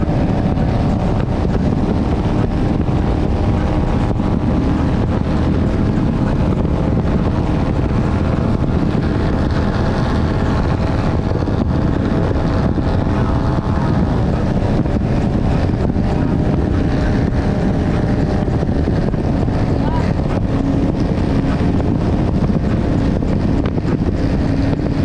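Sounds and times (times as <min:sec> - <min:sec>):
boat engine: 0:00.0 - 0:25.0
hull rushing over water: 0:00.0 - 0:25.0
wind buffeting microphone: 0:00.0 - 0:25.0.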